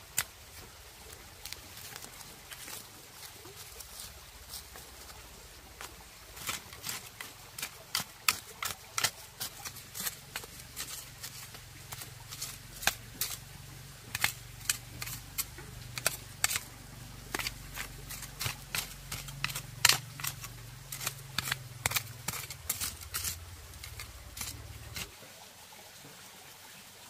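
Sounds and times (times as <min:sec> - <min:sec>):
hand hoe scraping stony soil: 0:00.0 - 0:25.2.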